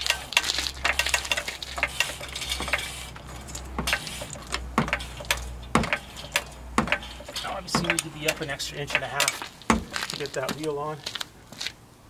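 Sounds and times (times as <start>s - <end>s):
floor jack clicking: 0.0s - 10.2s.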